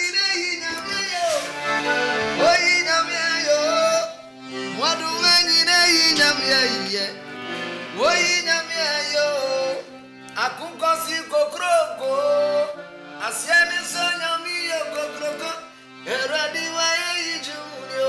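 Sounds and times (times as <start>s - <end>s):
man singing: 0.0s - 1.6s, 2.3s - 7.2s, 7.9s - 18.0s
accordion playing chords: 0.0s - 18.0s.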